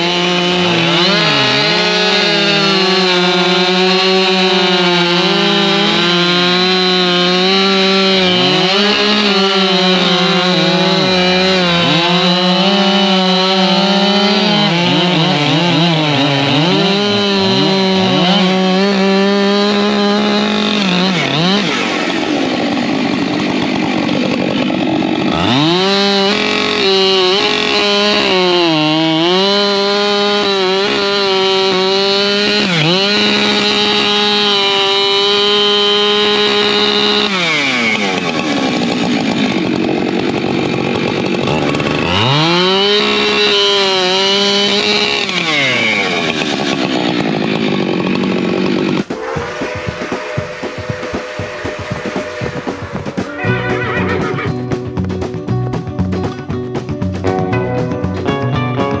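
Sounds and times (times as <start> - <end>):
chainsaws cutting logs: 0.0 - 59.0.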